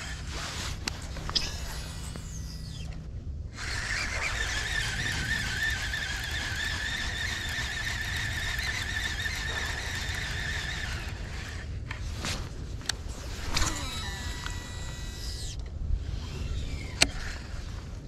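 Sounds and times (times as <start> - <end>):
fishing reel whirring: 0.0 - 11.8, 13.2 - 17.8
reel clicks: 0.0 - 12.0, 12.8 - 17.6.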